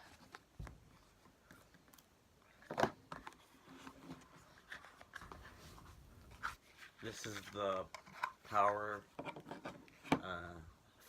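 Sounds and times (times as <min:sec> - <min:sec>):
soft rustles: 0:00.0 - 0:10.1.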